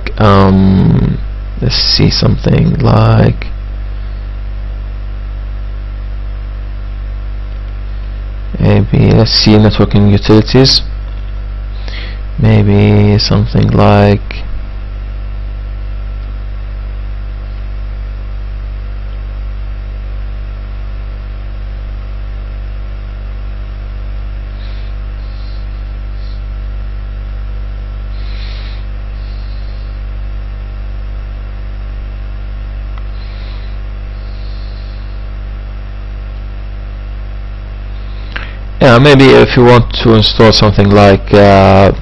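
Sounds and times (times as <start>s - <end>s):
electrical mains hum: 0.0s - 42.0s.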